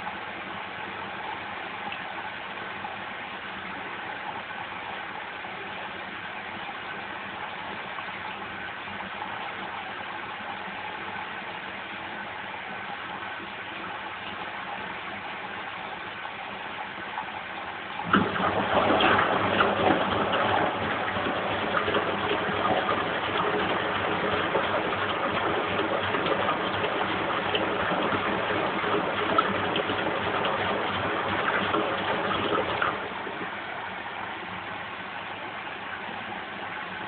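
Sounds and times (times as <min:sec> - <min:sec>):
water rushing through washing machine: 0:00.0 - 0:34.6
washing machine motor hum: 0:02.7 - 0:35.2.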